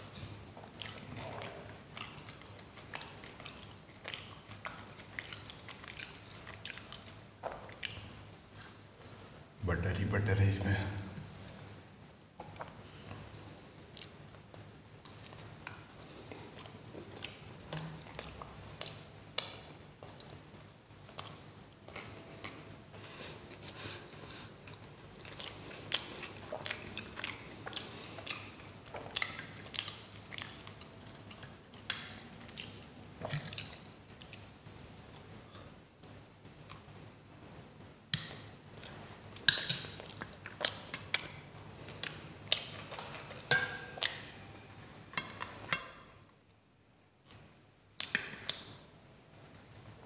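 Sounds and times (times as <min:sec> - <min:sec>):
chewing and biting: 0:00.0 - 0:08.8, 0:12.4 - 0:23.8, 0:24.5 - 0:37.1, 0:38.2 - 0:46.0.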